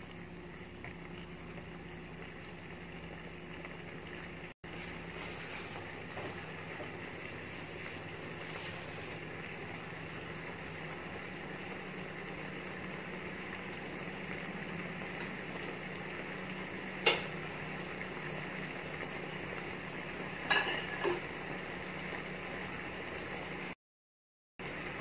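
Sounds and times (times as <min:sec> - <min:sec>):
stir fry sizzling in a pan: 0:00.0 - 0:23.8, 0:24.6 - 0:25.0.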